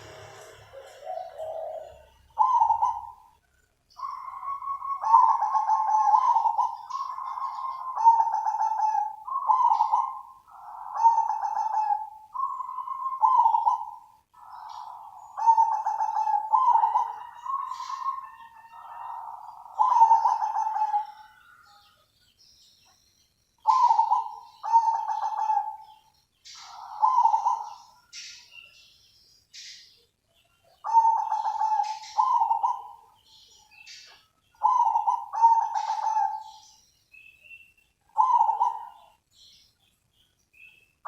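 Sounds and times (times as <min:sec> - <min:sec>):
dove cooing: 0:00.0 - 0:03.4, 0:04.0 - 0:22.0, 0:23.6 - 0:28.9, 0:30.4 - 0:36.8, 0:38.0 - 0:39.6.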